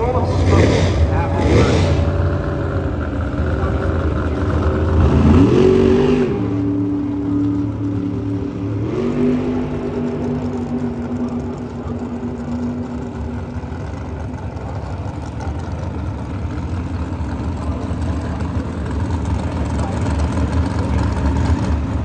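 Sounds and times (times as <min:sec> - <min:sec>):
higher engine note: 0:00.0 - 0:22.0
racing engines idling: 0:00.0 - 0:22.0.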